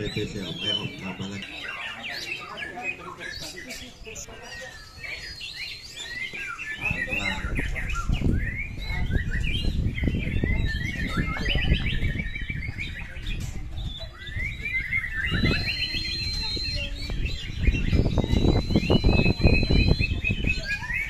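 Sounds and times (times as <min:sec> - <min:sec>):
birds singing warbled phrases: 0:00.0 - 0:21.0.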